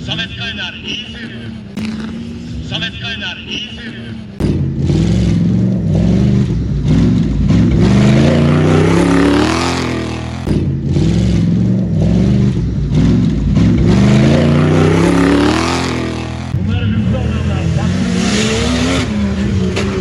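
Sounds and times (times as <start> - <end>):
off-road engines revving hard: 0.0 - 20.0.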